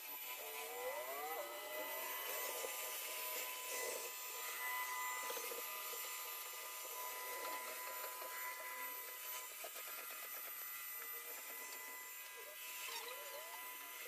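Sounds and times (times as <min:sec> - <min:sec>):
robot vacuum motor whine: 0:00.0 - 0:14.0.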